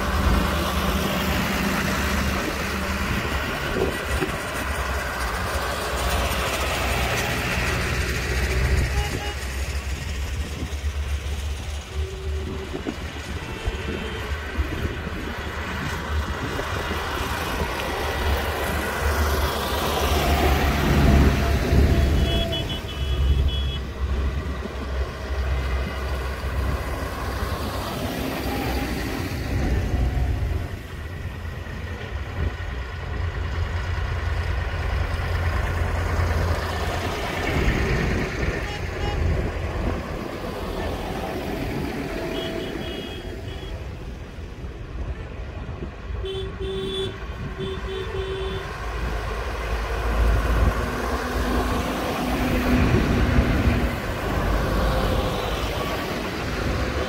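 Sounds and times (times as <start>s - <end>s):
tractors driving past: 0.0s - 57.0s
tyres on wet tarmac: 0.0s - 57.0s.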